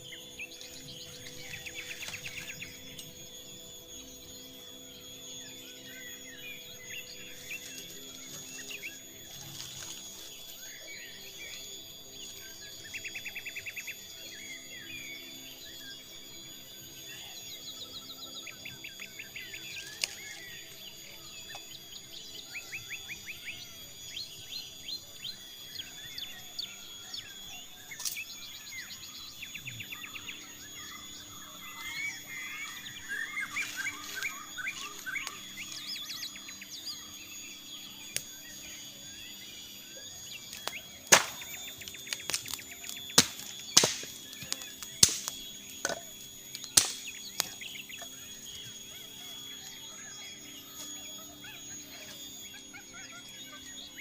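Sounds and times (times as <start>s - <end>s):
birds trilling: 0.0s - 54.0s
high insect drone: 0.0s - 54.0s.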